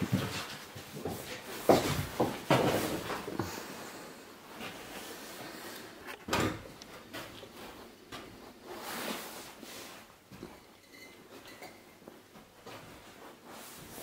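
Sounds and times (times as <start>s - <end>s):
knocks and scuffing while climbing: 0.0s - 3.8s, 4.4s - 14.0s.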